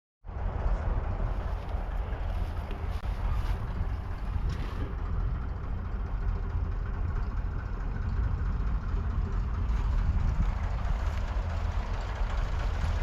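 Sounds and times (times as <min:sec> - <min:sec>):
tractor diesel engine rumbling: 0:00.3 - 0:13.0.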